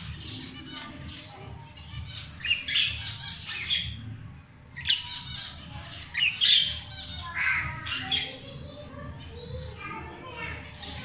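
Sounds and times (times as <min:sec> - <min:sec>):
budgerigars squawking and chirping: 0:00.0 - 0:08.9.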